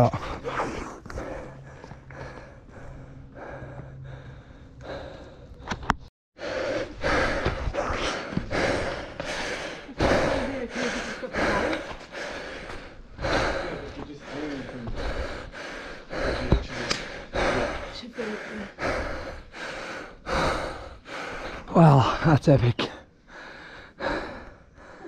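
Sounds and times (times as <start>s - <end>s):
person breathing hard: 0.0s - 22.2s, 23.0s - 25.0s.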